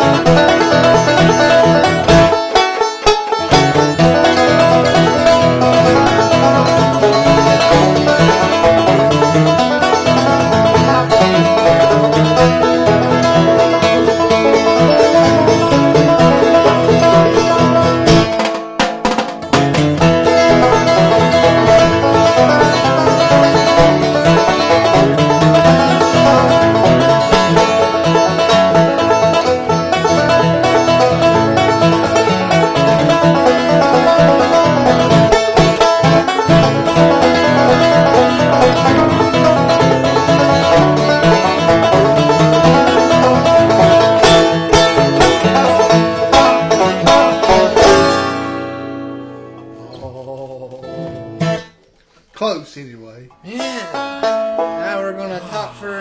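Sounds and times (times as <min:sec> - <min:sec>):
banjo playing bluegrass: 0:00.0 - 0:52.3, 0:53.3 - 0:56.0
acoustic guitar playing: 0:00.0 - 0:56.0.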